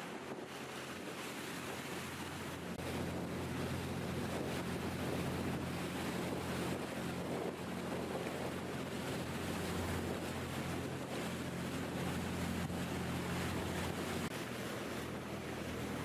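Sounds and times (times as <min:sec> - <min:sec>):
boat engine humming: 0:00.0 - 0:16.0
water rushing past hull: 0:00.0 - 0:16.0
wind on microphone: 0:00.0 - 0:16.0.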